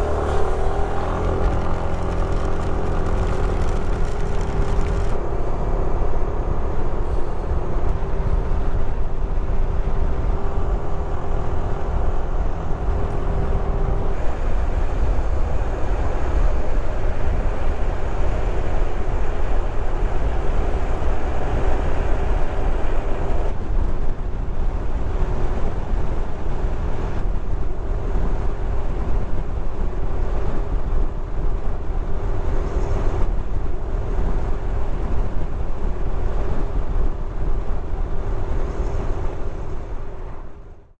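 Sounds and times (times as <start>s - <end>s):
motorcycle engine drone: 0.0s - 40.8s
wind rushing over microphone: 0.0s - 41.0s.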